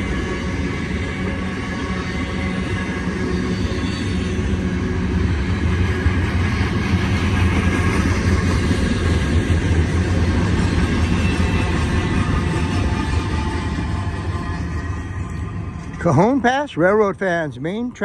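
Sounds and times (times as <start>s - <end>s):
freight train cars rumbling past: 0.0s - 18.0s.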